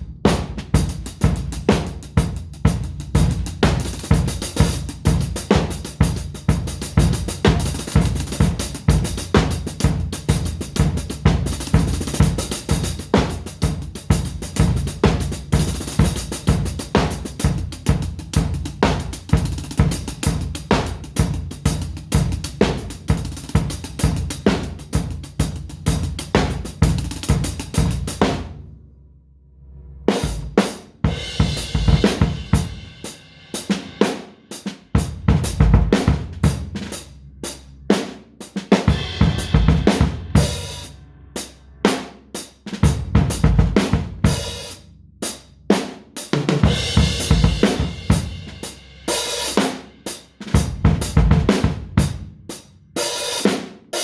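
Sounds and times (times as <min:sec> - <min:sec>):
drum kit groove: 0:00.0 - 0:28.8, 0:30.1 - 0:54.0.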